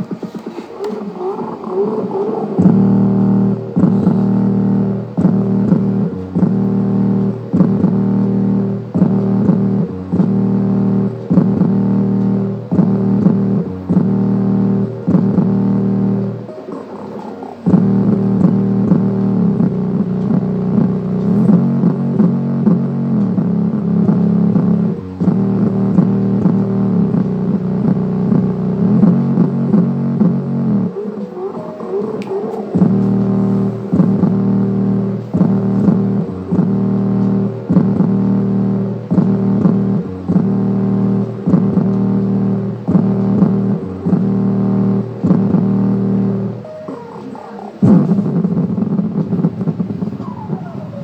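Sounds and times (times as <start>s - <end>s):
distorted bass from subwoofer: 0.0s - 51.0s.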